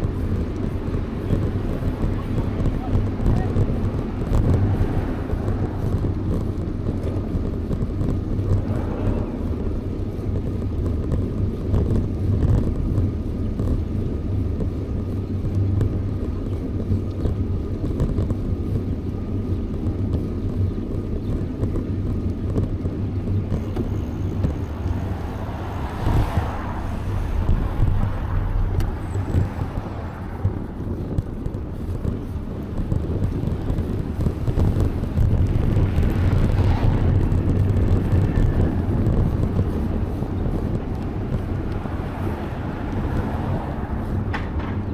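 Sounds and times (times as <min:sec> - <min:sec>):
road traffic: 0:00.0 - 0:44.9
wind rumble on microphone: 0:00.0 - 0:44.9.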